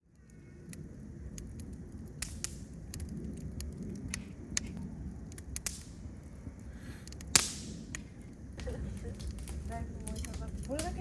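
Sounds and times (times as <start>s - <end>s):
campfire flame rumble: 0.0s - 11.0s
fire crackles and pops: 0.0s - 11.0s.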